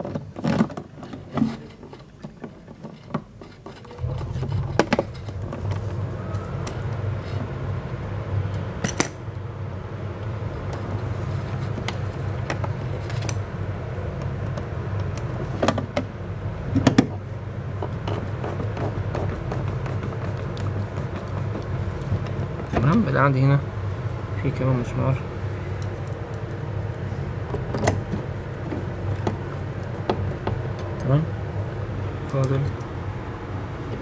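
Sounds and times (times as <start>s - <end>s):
steady low hum: 3.2s - 34.0s.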